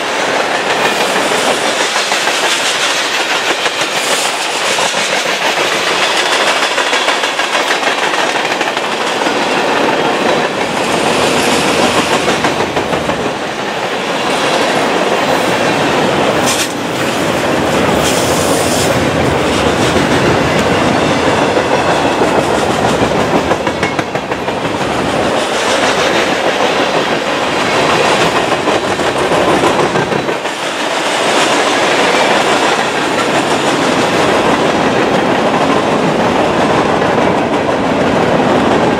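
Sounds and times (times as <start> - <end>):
clickety-clack over rail joints: 0.0 - 38.9
train wheels rumbling on rail: 0.0 - 38.9.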